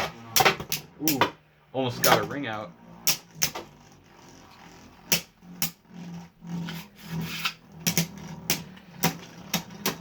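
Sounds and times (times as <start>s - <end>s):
spinning tops whirring: 1.9s - 10.0s.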